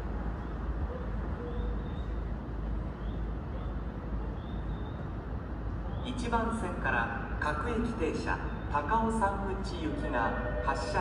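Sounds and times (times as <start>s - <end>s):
idling train hum: 0.0s - 11.0s.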